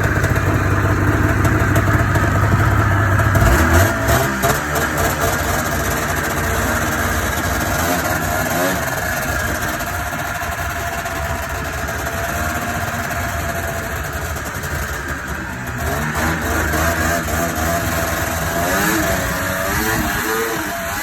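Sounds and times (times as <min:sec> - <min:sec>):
snowmobile engine running steadily: 0:00.0 - 0:21.0.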